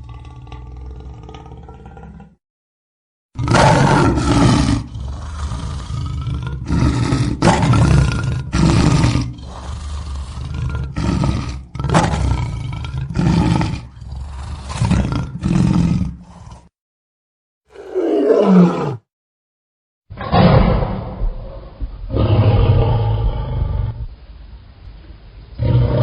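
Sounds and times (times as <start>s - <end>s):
lion roaring: 0.0s - 2.4s, 3.4s - 16.7s, 17.7s - 19.1s, 20.1s - 24.1s, 25.6s - 26.0s.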